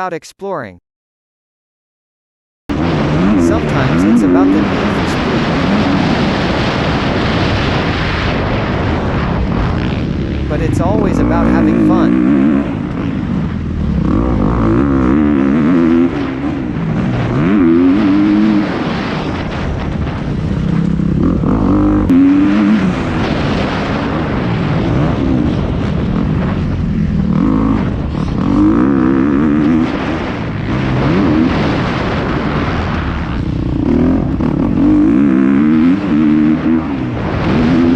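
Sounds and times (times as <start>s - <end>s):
dirt bike engines revving: 2.7s - 37.9s.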